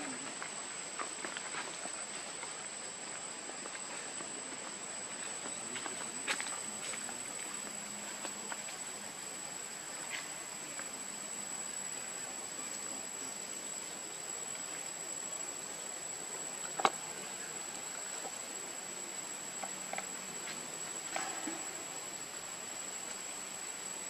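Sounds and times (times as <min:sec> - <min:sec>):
faint hiss: 0:00.0 - 0:24.0
insects droning: 0:00.0 - 0:24.0.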